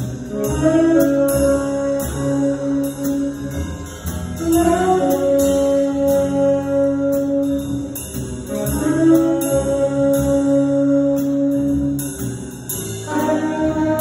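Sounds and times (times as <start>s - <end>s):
drum kit with cymbals: 0.0s - 14.0s
piano: 0.0s - 14.0s
saxophones holding long notes: 0.0s - 14.0s
upright bass: 0.0s - 14.0s.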